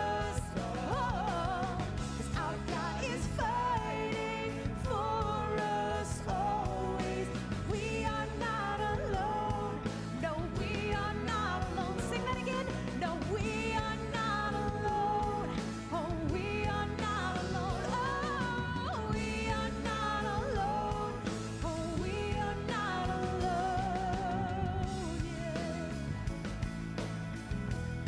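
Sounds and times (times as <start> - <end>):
person singing: 0.0 - 26.0
worship band music: 0.0 - 28.0.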